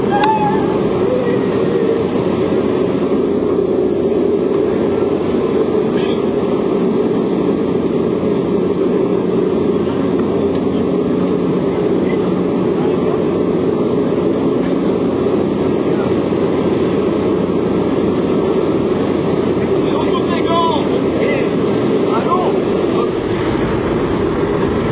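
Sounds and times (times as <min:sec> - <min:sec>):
plane engine droning: 0:00.0 - 0:24.9.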